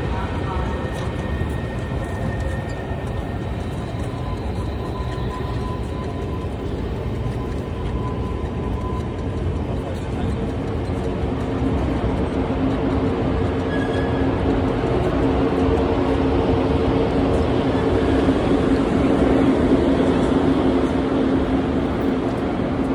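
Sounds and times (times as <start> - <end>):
electric train humming: 0.0 - 22.9.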